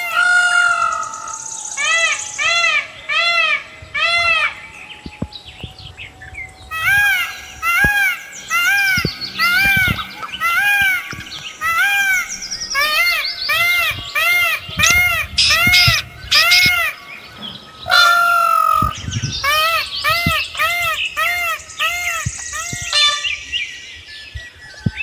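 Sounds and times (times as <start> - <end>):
high chirps of small birds: 0.0 - 25.0.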